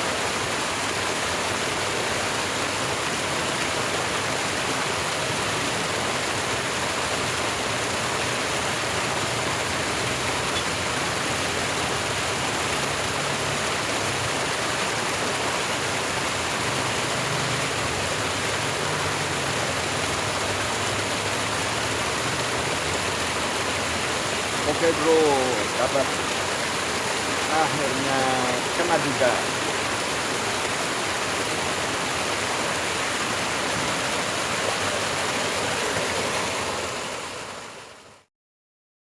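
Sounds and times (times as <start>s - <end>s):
water rushing in a ditch: 0.0s - 38.3s.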